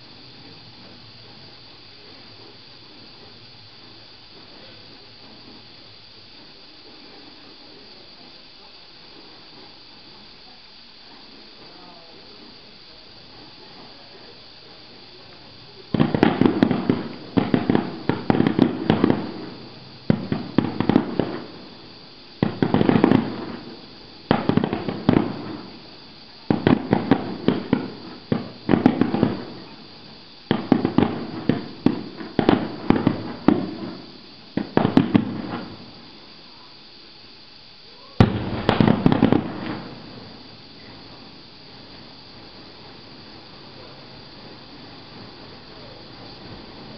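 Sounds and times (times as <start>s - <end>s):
firework shells bursting: 0.0s - 46.9s.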